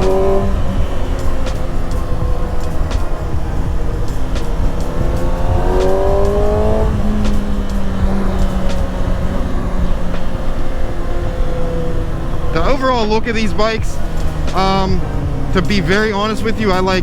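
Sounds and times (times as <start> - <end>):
motorcycle engine revving: 0.0 - 17.0
wind noise on microphone: 0.0 - 17.0.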